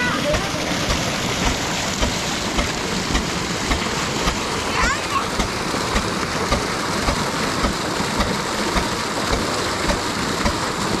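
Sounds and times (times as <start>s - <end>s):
diesel engine beating: 0.0s - 11.0s
rush of pumped water: 0.0s - 11.0s.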